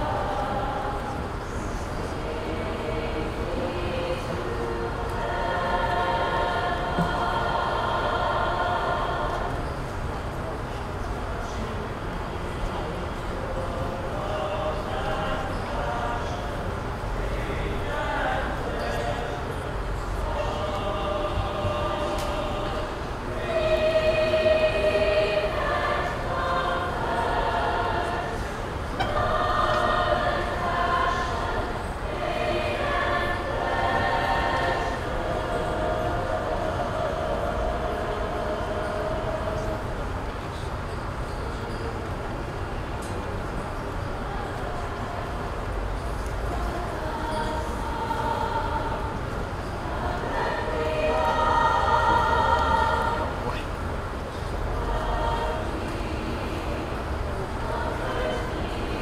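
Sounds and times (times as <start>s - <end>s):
choir singing held notes: 0.0s - 59.0s.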